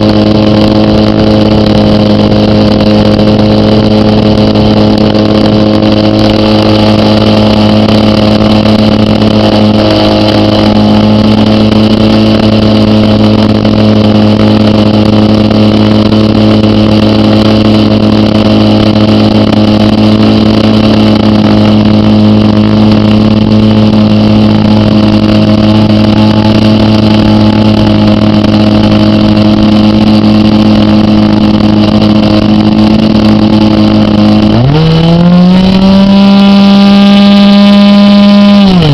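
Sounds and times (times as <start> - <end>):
model plane engine running: 0.0 - 38.9.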